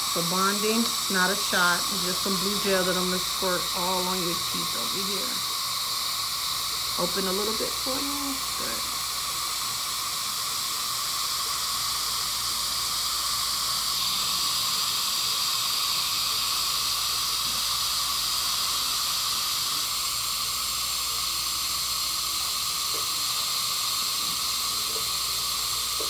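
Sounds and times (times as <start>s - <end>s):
dental suction hissing: 0.0s - 26.0s.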